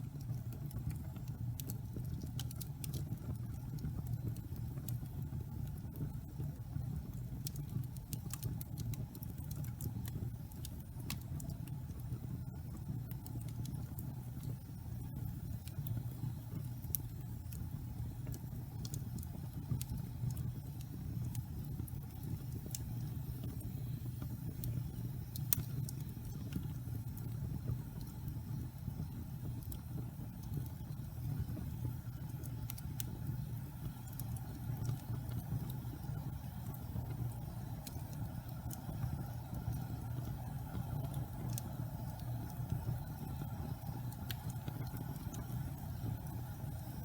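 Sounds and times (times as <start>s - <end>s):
fire flames rumbling: 0.0s - 47.0s
logs crackling and popping: 0.0s - 47.0s.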